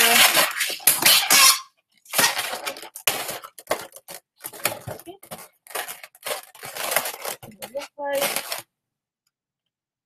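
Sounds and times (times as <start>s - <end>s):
balloons rubbing and rustling: 0.0s - 8.7s.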